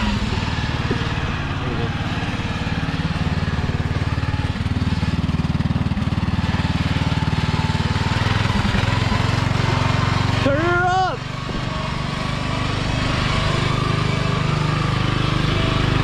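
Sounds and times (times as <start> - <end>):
lawn mower engine putter: 0.0 - 10.6, 11.2 - 16.0.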